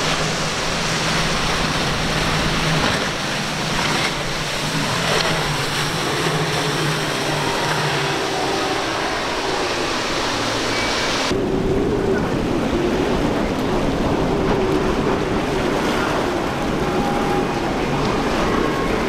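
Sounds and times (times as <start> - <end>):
outboard engines droning: 0.0 - 19.0
rushing water and spray: 0.0 - 19.0.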